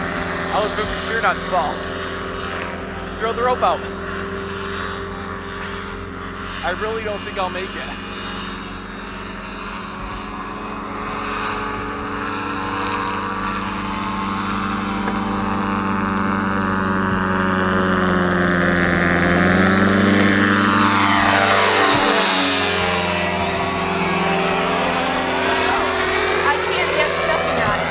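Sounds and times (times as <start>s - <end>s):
motorboat engine running: 0.0s - 27.9s.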